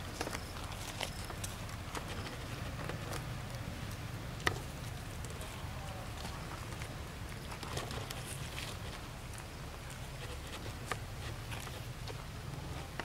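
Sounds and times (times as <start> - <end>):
small clicks and rustles: 0.0 - 13.0.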